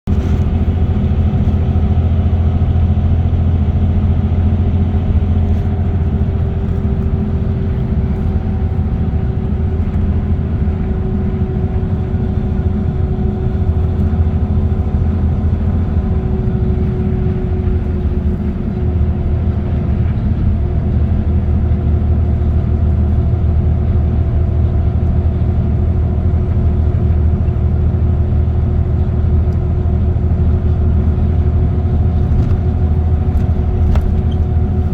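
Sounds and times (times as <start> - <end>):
constant hum: 0.0 - 34.9
road and engine rumble: 0.0 - 34.9.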